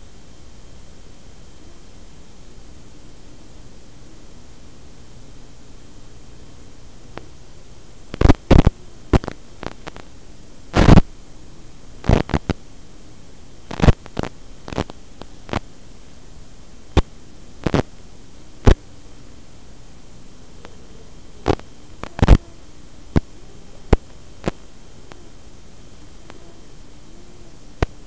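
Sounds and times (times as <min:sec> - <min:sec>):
faint wavering hum: 0:00.0 - 0:28.0
radio static hiss: 0:00.0 - 0:28.0
sharp static crackles: 0:00.0 - 0:28.0.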